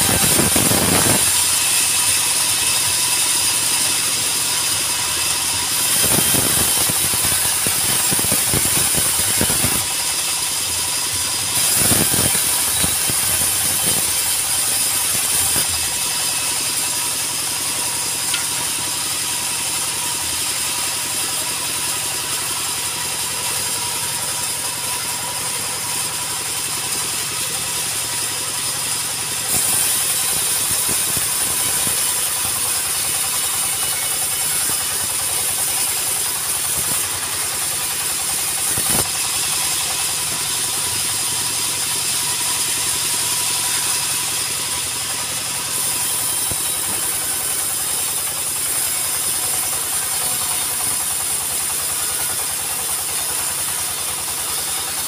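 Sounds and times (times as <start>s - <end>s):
bandsaw sawmill running: 0.0s - 55.0s
blade cutting through timber: 0.0s - 55.0s.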